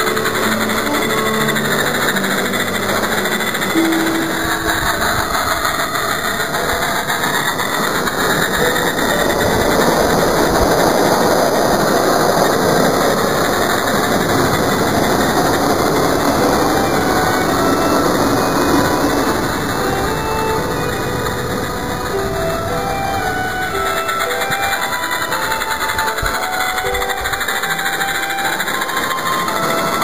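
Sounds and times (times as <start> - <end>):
steam locomotive hiss and rumble: 0.0 - 30.0.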